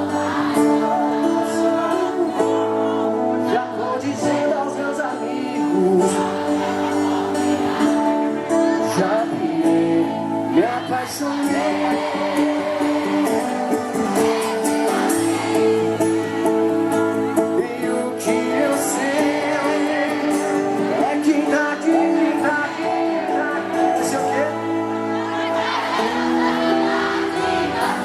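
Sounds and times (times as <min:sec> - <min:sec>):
keyboard chords: 0:00.0 - 0:28.0
live pop band music: 0:00.0 - 0:28.0
person singing: 0:00.0 - 0:28.0.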